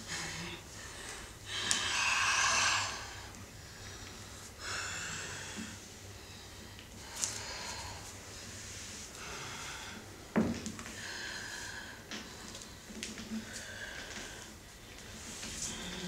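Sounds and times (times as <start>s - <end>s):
person breathing heavily: 0.0s - 10.3s, 10.9s - 14.6s.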